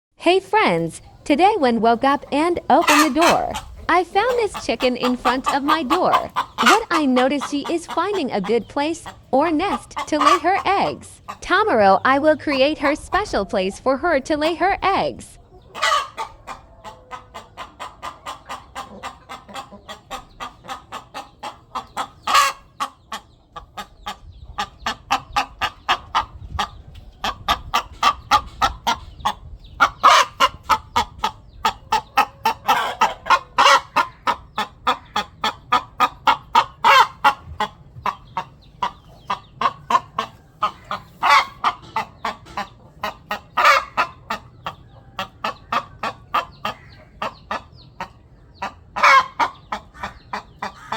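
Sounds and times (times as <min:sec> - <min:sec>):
hen clucking: 0:00.2 - 0:50.9.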